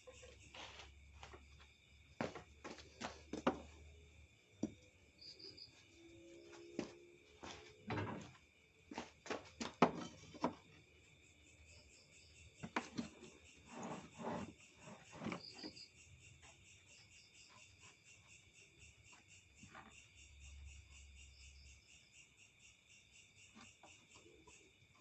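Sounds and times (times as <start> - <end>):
cricket trill: 0.0 - 25.0.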